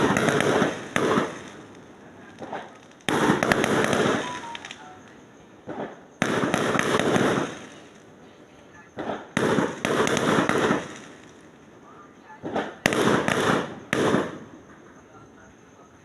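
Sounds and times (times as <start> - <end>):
small firework pops: 0.0 - 8.1, 8.7 - 11.6, 12.4 - 14.9
fireworks crackling bangs: 0.0 - 16.0.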